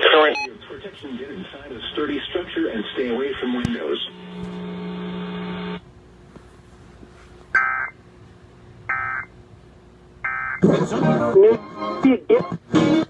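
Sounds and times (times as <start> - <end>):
steady buzzing hum: 0.0 - 13.0.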